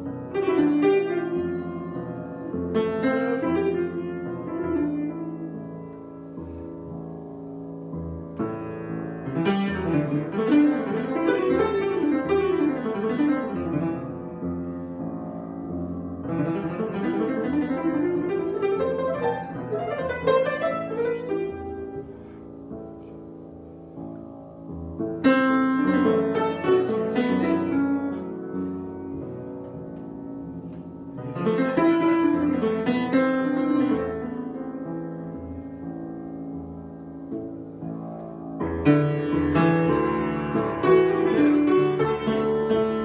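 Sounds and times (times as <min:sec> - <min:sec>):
solo piano improvisation: 0:00.0 - 0:43.0.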